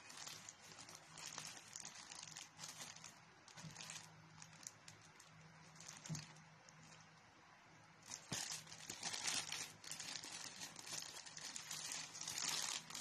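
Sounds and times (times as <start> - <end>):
plastic bag crinkling: 0.0 - 7.1, 8.0 - 13.0.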